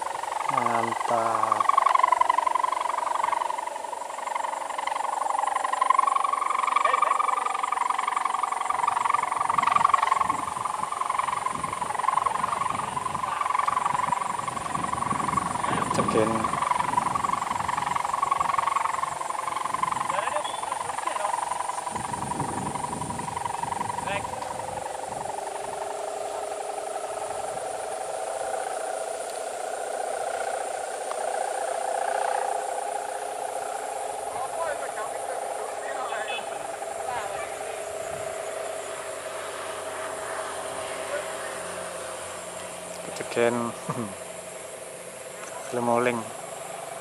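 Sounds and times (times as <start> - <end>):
kite hummer droning: 0.0 - 47.0.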